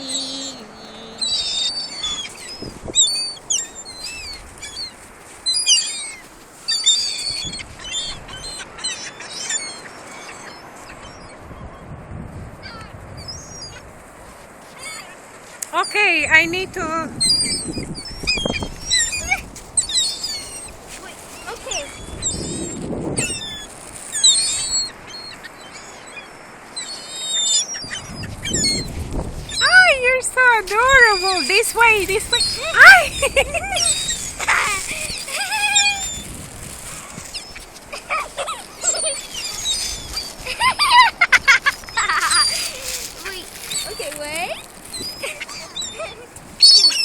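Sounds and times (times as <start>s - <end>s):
gulls calling: 0.0s - 11.8s, 14.7s - 47.0s.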